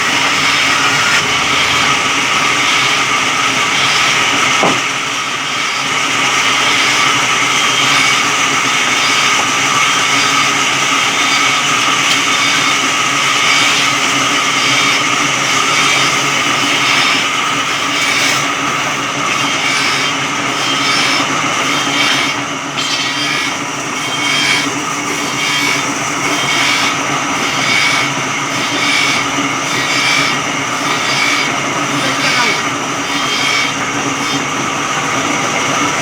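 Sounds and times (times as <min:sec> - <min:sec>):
saw cutting through log: 0:00.0 - 0:36.0.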